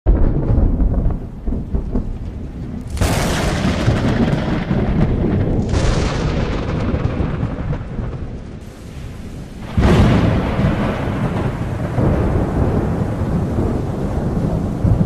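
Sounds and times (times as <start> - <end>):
deep thunder rumble: 0.1 - 15.0
thunder crack: 0.1 - 15.0.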